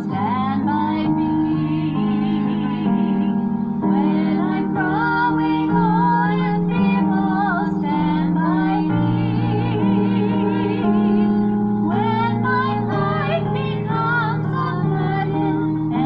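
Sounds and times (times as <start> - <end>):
sustained keyboard chords: 0.0 - 16.0
woman singing a hymn with vibrato: 0.0 - 16.0.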